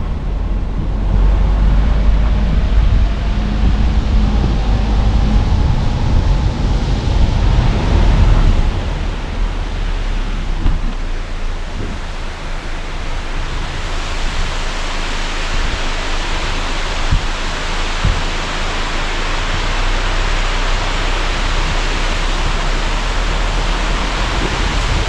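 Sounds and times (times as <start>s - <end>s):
car engine and tyre rumble: 0.0s - 25.0s
falling water rushing: 0.0s - 25.0s.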